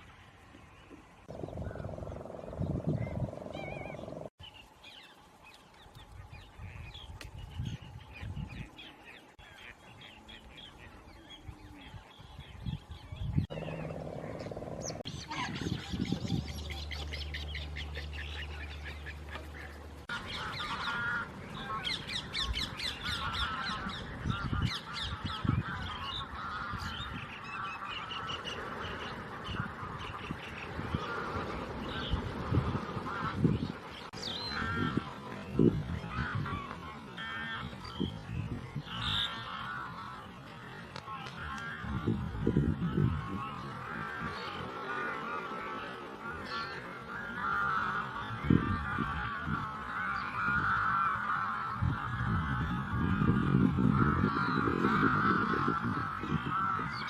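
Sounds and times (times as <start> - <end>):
wetland birds honking and chattering: 0.0 - 57.0.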